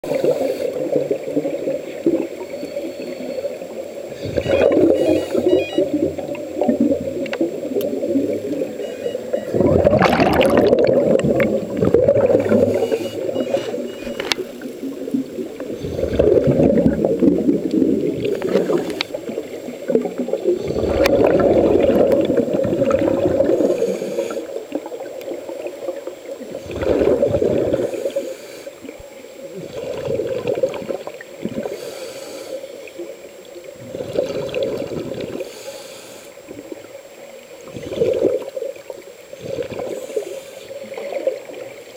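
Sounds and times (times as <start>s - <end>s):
regulator exhale bubbles underwater: 0.0s - 31.8s, 33.6s - 35.5s, 37.6s - 41.9s.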